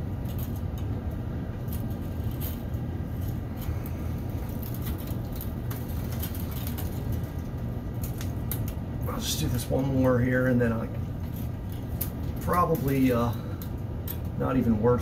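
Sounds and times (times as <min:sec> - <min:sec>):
cable ticks and rustles: 0:00.0 - 0:15.0
machinery rumble: 0:00.0 - 0:15.0.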